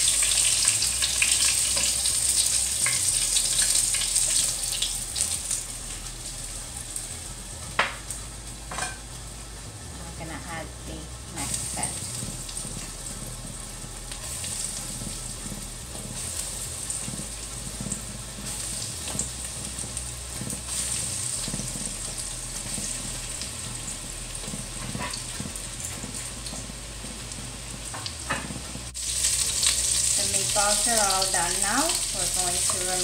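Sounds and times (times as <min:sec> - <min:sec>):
meatballs sizzling in oil: 0:00.0 - 0:09.7, 0:10.4 - 0:33.0.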